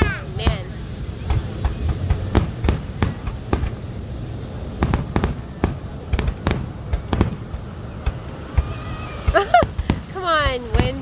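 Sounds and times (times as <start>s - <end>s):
fireworks shells bursting: 0.0s - 11.0s
low rumble: 0.0s - 11.0s.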